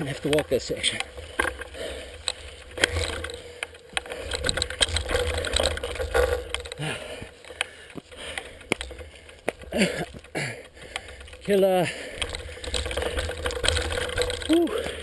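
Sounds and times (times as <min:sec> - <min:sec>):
bicycle freehub ticking: 0:00.0 - 0:15.0
bike knocking and rattling over rock: 0:00.0 - 0:15.0.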